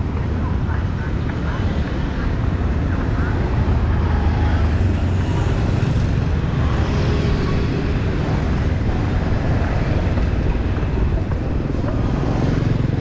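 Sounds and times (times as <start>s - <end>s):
traffic running past: 0.0s - 13.0s.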